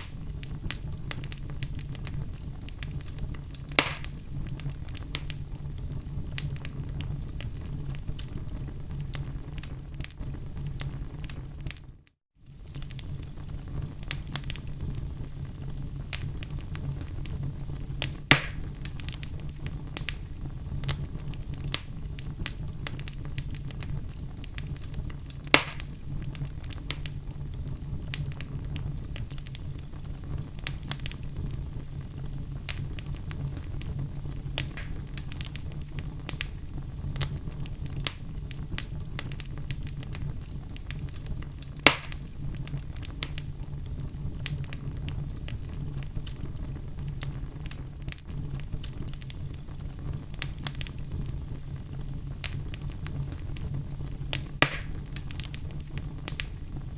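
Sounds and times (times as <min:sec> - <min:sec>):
sharp pops of burning wood: 0:00.0 - 0:08.5, 0:12.5 - 0:15.0, 0:15.7 - 0:56.8
fire flames rumbling: 0:00.0 - 0:56.9
wood crackling: 0:00.0 - 0:56.9.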